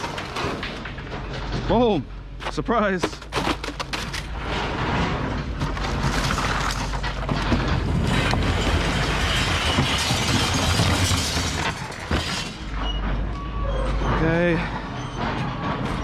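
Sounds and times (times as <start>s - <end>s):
metal cabinet scraping and rattling: 0.0s - 16.0s.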